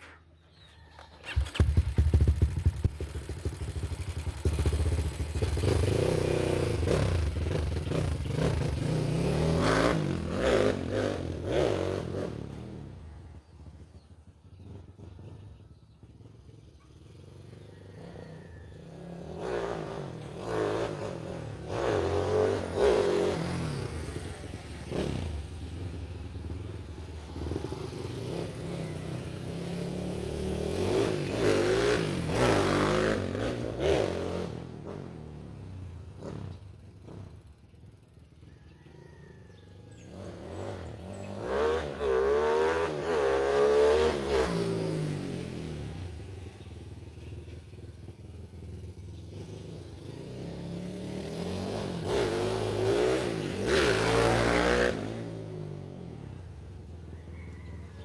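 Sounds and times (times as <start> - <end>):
motorcycle engine revving: 0.9 - 38.2, 39.9 - 58.0.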